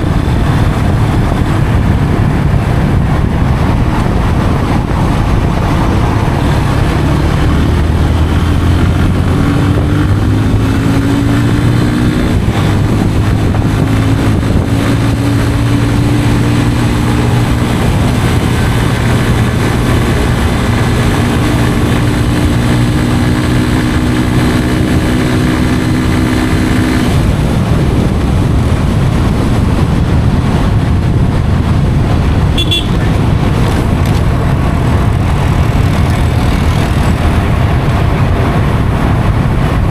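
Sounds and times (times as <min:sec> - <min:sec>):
even rushing noise: 0:00.0 - 0:39.9
motorcycle engine running: 0:00.0 - 0:39.9.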